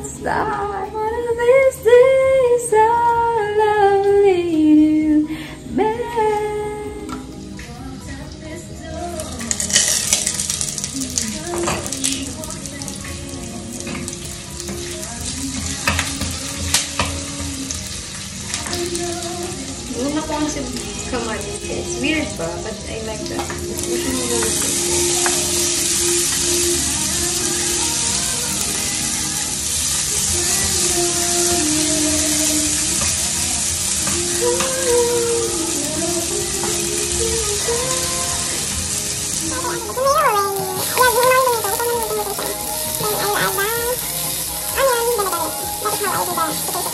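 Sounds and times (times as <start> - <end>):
meat sizzling in a pan: 9.1 - 46.9.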